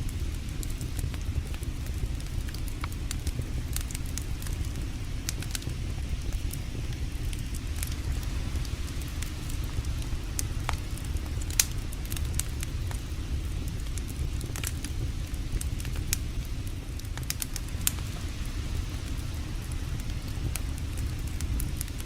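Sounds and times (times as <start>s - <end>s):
campfire crackling and popping: 0.0s - 22.0s
steady low rumble: 0.0s - 22.0s.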